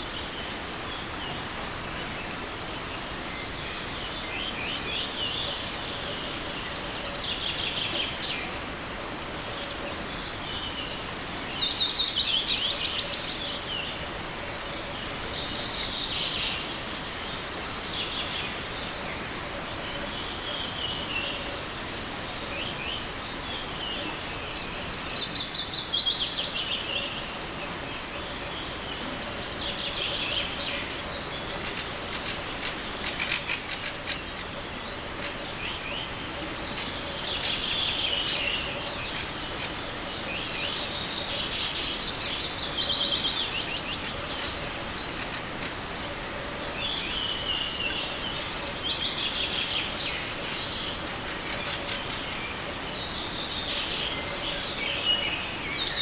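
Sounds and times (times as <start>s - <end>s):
forest river rushing: 0.0s - 56.0s
songbirds singing: 0.0s - 56.0s.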